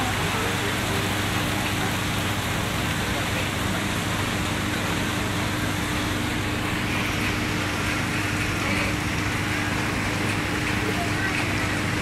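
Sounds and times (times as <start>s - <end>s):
heavy rain on asphalt: 0.0s - 12.0s.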